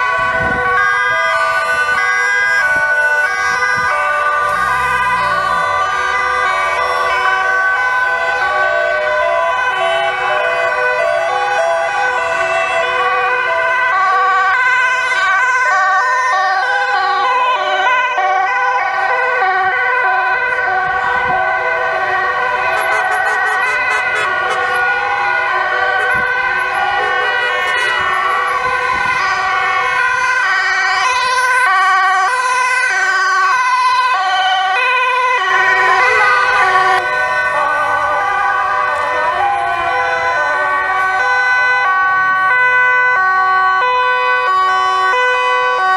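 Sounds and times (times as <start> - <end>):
vehicle engines running: 0.0 - 45.2
rising and falling siren wails: 0.0 - 45.9
two-tone sirens: 0.0 - 45.9.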